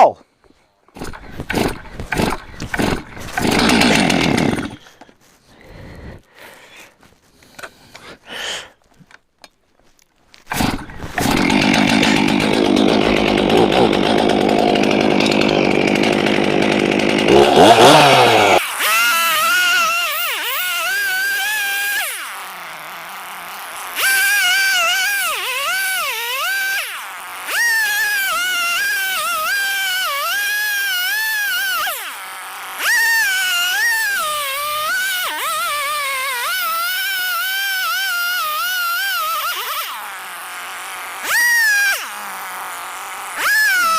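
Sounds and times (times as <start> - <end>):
chainsaw running and revving: 0.9 - 5.0, 10.5 - 43.9
chainsaw cutting wood: 0.9 - 5.2, 10.4 - 43.9.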